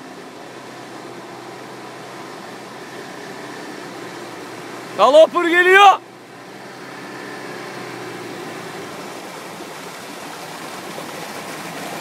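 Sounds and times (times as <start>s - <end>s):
engine running under load: 0.0s - 12.0s
tyres churning through mud: 0.0s - 12.0s.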